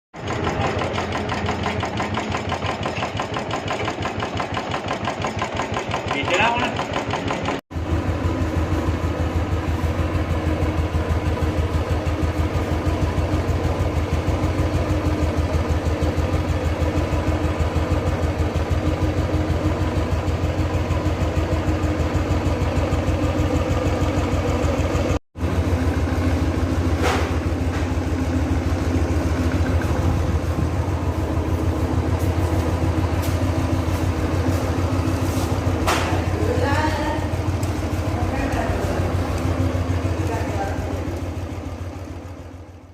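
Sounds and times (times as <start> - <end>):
motorcycle engine idling: 0.2 - 42.9.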